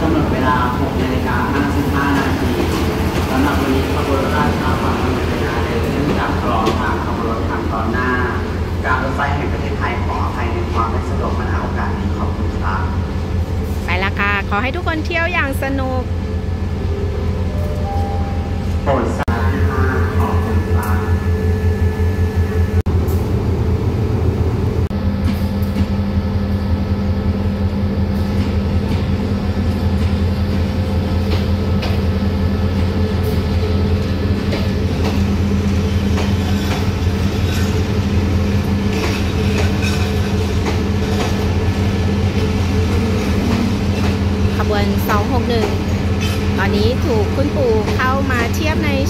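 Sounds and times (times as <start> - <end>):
locomotive engine drone: 0.0 - 49.0.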